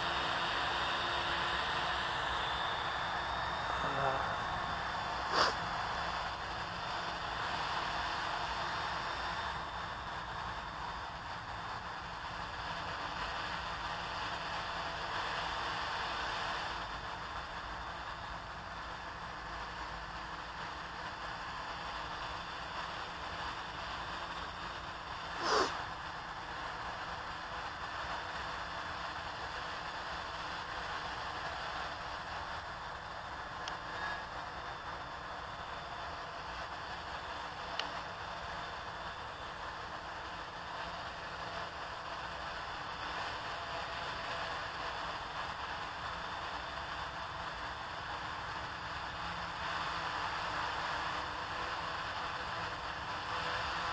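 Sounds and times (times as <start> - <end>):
quadcopter propellers whirring: 0.0 - 53.9.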